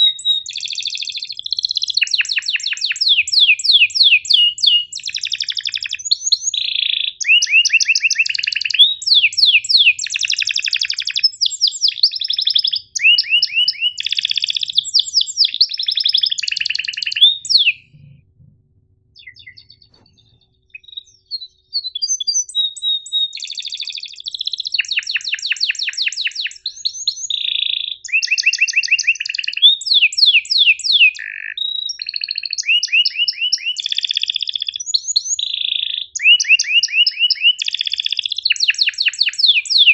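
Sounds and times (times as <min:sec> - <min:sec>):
canary singing trills: 0:00.0 - 0:18.4, 0:19.2 - 0:39.9.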